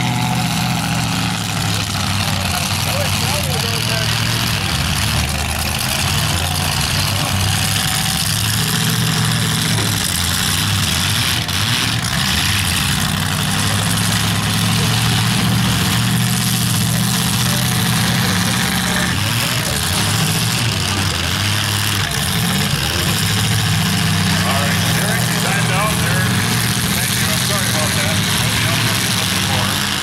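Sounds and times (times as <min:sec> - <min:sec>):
truck engines idling: 0:00.0 - 0:30.0.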